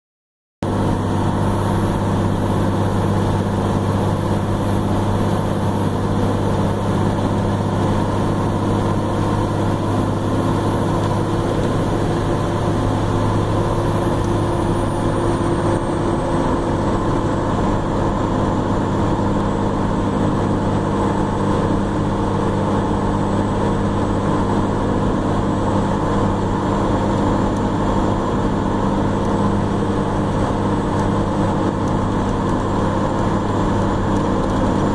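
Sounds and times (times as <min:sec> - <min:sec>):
diesel engine drone: 0:00.6 - 0:34.9
road noise: 0:00.6 - 0:34.9.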